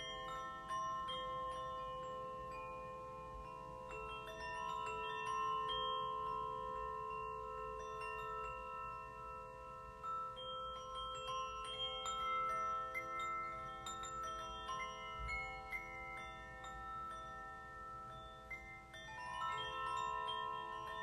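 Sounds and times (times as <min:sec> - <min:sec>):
chimes ringing: 0:00.0 - 0:21.0.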